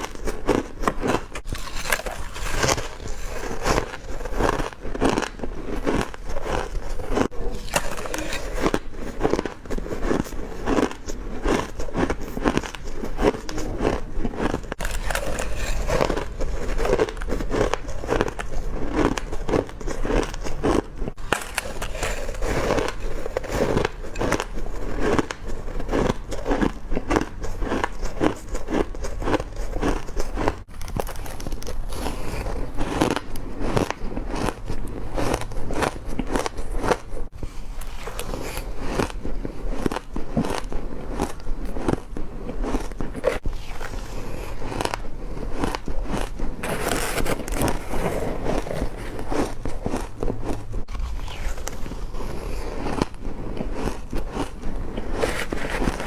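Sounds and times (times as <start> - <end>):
person chewing crushed ice: 0.0 - 56.0.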